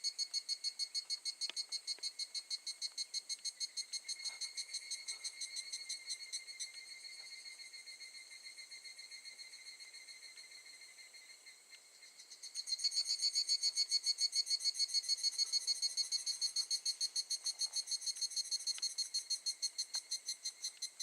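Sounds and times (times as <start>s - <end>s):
cicada pulsing trill: 0.0s - 21.0s.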